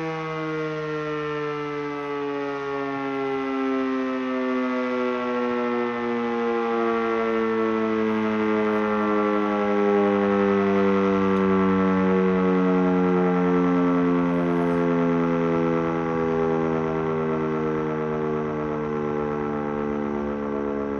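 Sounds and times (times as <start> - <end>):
electric motor siren falling in pitch: 0.0 - 20.9.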